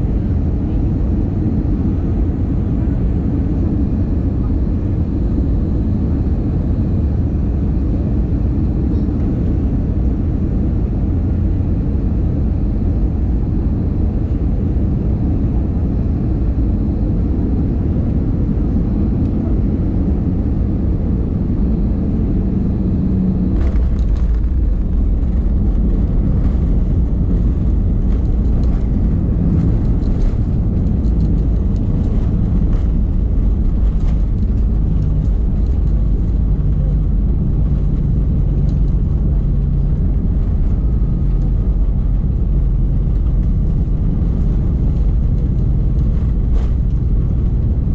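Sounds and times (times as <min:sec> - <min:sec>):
jet engines and airflow rumble: 0:00.0 - 0:47.9
low hum: 0:00.0 - 0:47.9.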